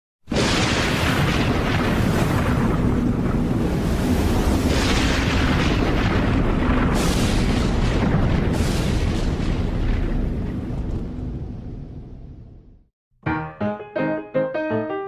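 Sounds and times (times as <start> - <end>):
explosive rumbling: 0.3 - 12.8.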